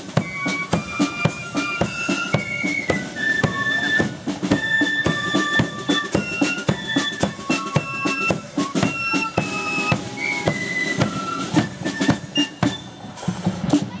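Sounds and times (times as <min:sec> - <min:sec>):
flutes playing high melody: 0:00.0 - 0:13.3
snare drum beats: 0:00.0 - 0:14.0.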